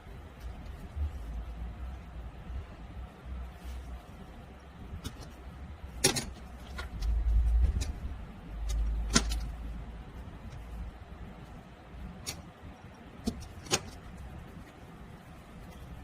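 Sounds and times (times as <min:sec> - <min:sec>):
low rumbling handling noise: 0:03.0 - 0:16.0.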